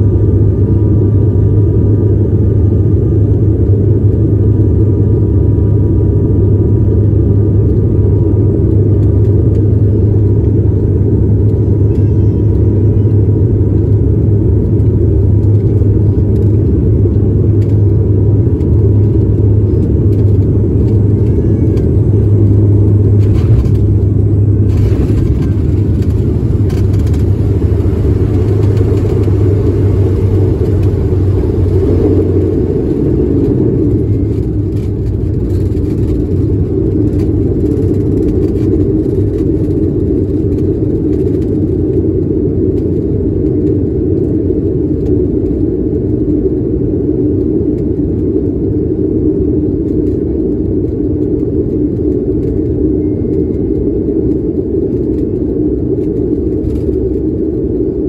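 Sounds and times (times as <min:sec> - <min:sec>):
airliner cabin rumble on runway: 0:00.0 - 0:58.0.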